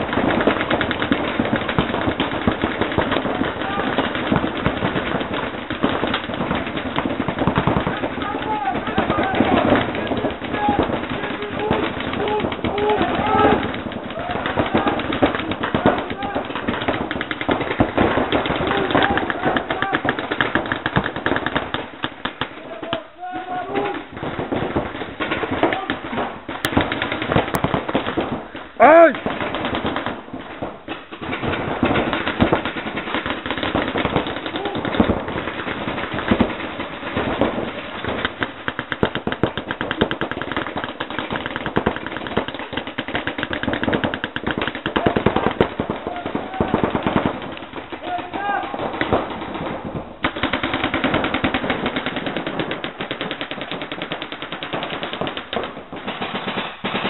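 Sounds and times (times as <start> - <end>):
markers firing rapid shots: 0.0 - 57.0.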